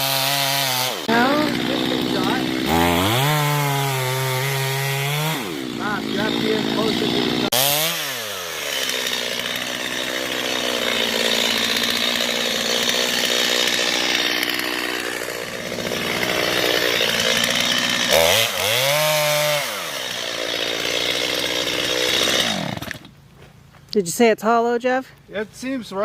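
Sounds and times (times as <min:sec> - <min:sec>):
chainsaw cutting tree trunk: 0:00.0 - 0:23.2.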